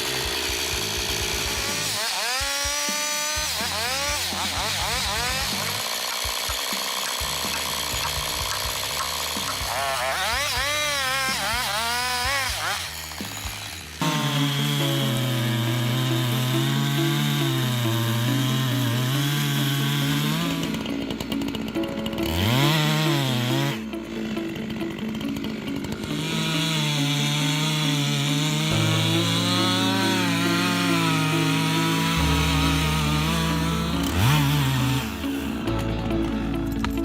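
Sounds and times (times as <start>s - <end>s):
chainsaw cutting a tree: 0.0s - 37.0s.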